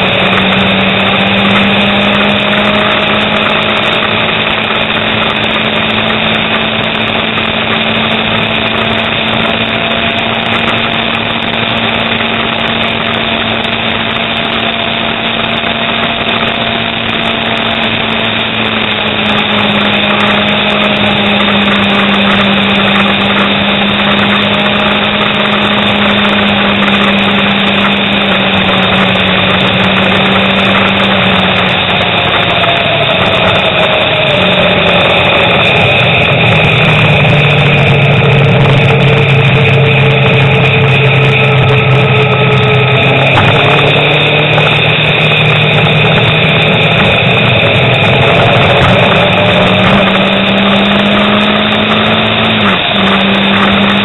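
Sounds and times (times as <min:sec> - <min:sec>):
motorcycle engine running: 0:00.0 - 0:54.0
wind rushing: 0:00.0 - 0:54.0.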